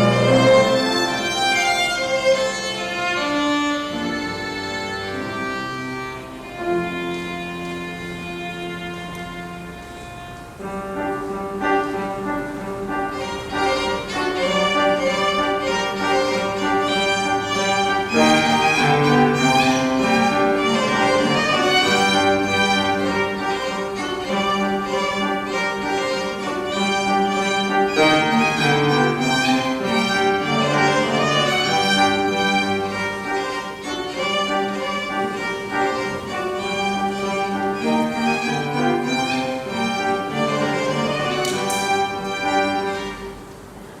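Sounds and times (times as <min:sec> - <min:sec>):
piano trio playing: 0:00.0 - 0:44.0.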